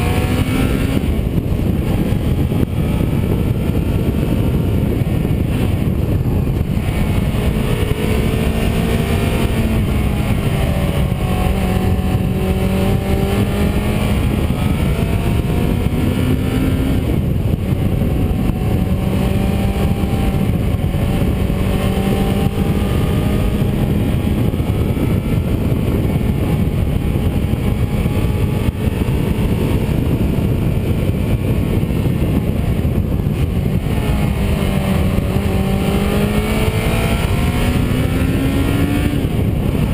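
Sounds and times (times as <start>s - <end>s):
road and wind rumble: 0.0s - 39.9s.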